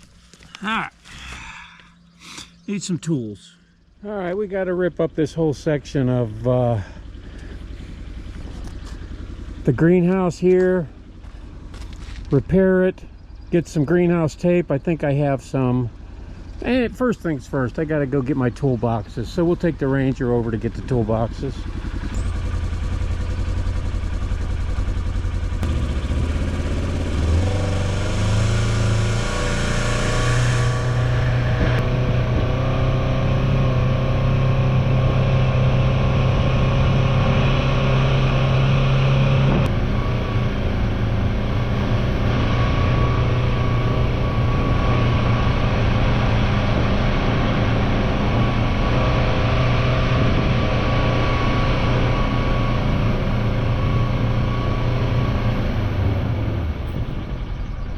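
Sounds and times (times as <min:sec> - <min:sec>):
utility vehicle engine running: 0:00.0 - 0:57.9.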